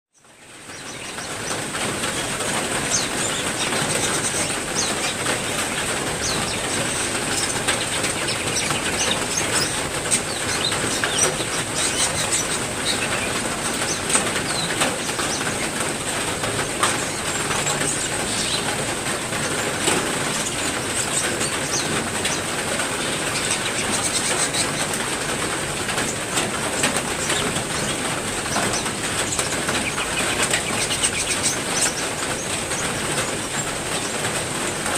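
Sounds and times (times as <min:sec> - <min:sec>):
small birds chirping: 0:00.1 - 0:34.9
heavy rain: 0:00.2 - 0:34.9.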